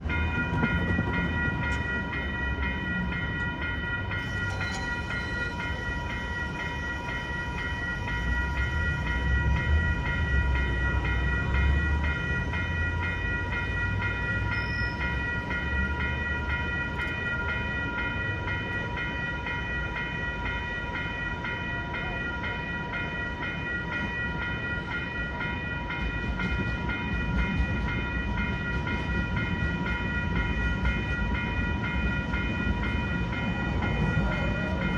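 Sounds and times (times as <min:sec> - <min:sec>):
crossing bell ringing: 0:00.0 - 0:34.9
tram rumbling: 0:00.0 - 0:34.9.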